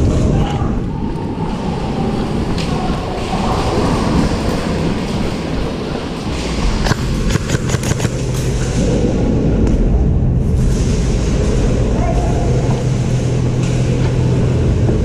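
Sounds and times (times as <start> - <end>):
handling and movement rumble: 0.0 - 15.0.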